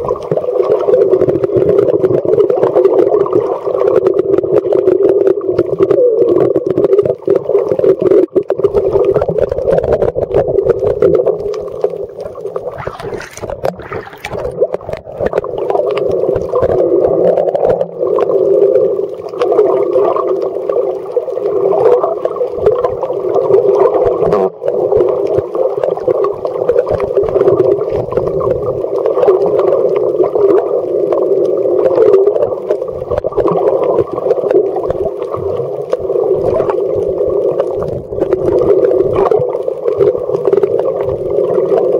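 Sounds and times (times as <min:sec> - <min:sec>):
underwater hum with crackling: 0:00.0 - 0:41.9.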